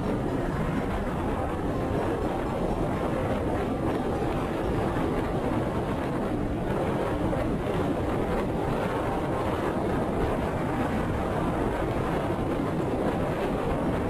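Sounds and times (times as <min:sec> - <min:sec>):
motorcycle road noise: 0:00.0 - 0:14.0
wind buffeting microphone: 0:00.0 - 0:14.0.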